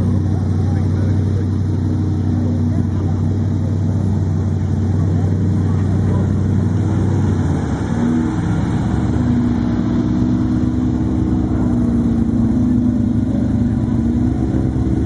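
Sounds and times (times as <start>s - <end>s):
deep pulsing engine rumble: 0.0s - 15.0s
steady whining tone: 0.0s - 15.0s.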